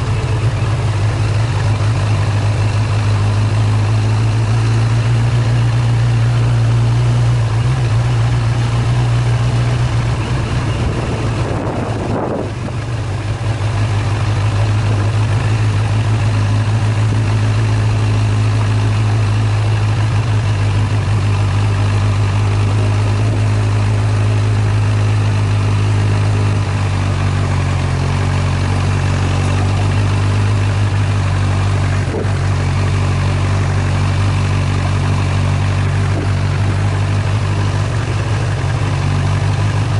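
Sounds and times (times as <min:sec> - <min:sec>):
road and wind hiss: 0:00.0 - 0:39.9
vehicle engine running: 0:00.0 - 0:39.9.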